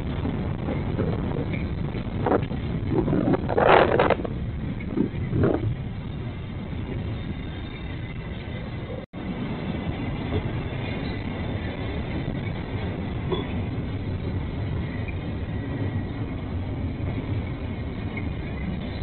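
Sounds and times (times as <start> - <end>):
rumbling vehicle noise: 0.0 - 19.0.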